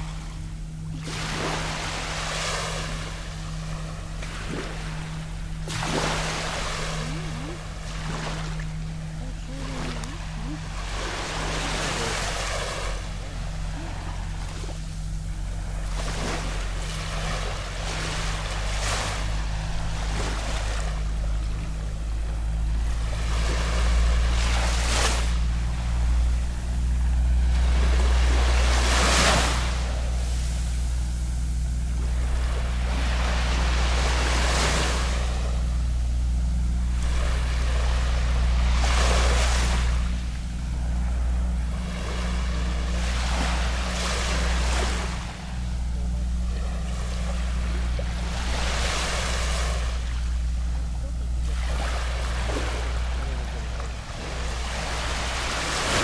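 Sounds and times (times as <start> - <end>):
small waves lapping on beach: 0.0 - 56.0
steady low rumble: 0.0 - 56.0.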